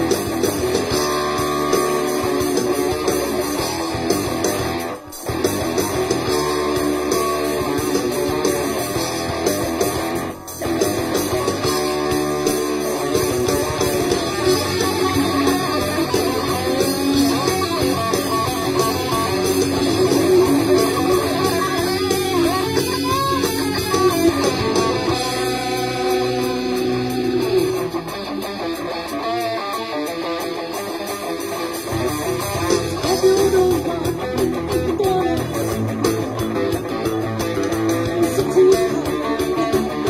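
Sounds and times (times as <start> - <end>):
electric guitar melody: 0.0 - 40.0.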